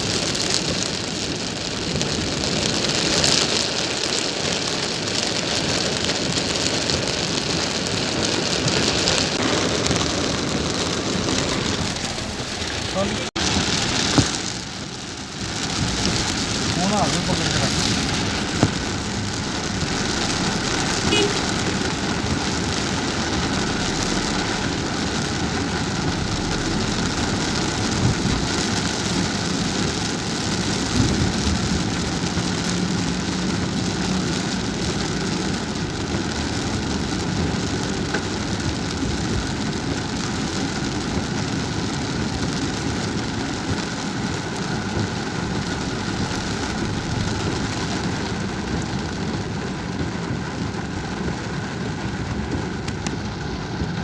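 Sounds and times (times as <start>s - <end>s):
car road and engine noise: 0.0s - 54.0s
rain on a moving car: 0.0s - 54.0s.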